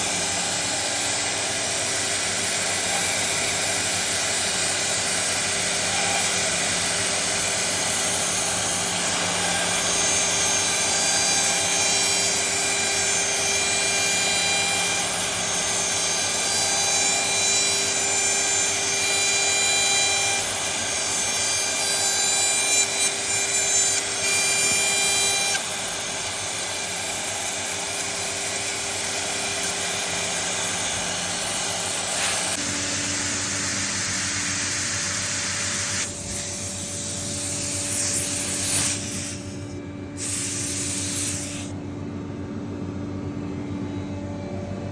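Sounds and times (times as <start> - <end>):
router spindle cutting wood: 0.0 - 41.8.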